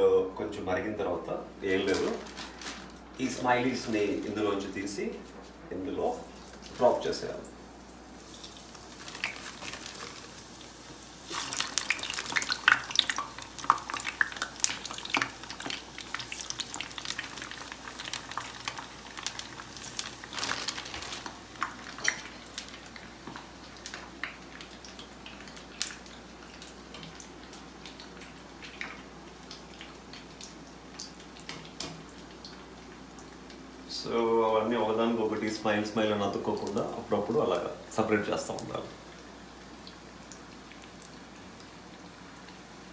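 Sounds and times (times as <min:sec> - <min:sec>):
food frying in hot oil: 0:06.0 - 0:42.9.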